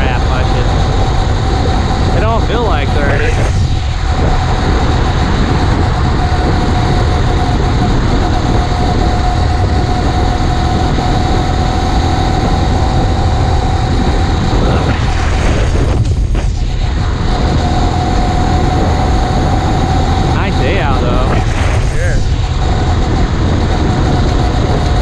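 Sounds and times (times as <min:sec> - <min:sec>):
small engine whining: 0:00.0 - 0:25.0
wind rush on microphone: 0:00.0 - 0:25.0.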